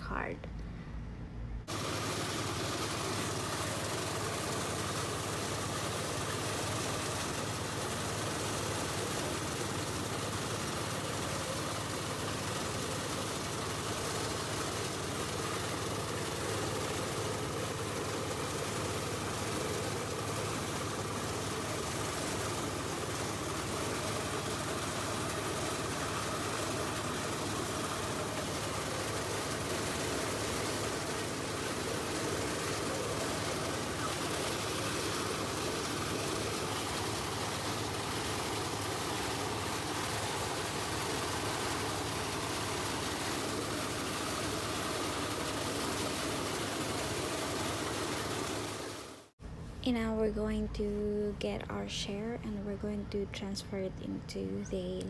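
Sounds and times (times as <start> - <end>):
thresher engine drone: 1.6 - 49.3.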